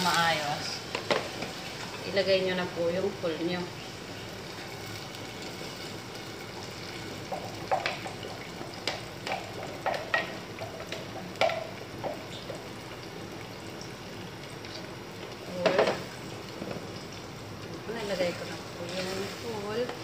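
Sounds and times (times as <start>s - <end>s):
food sizzling in a pot: 0.0s - 20.0s.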